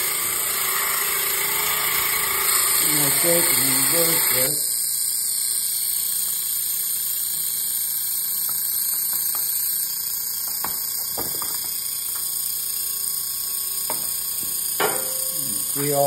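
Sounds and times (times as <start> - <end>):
blade cleaner hissing: 0.0 - 16.0.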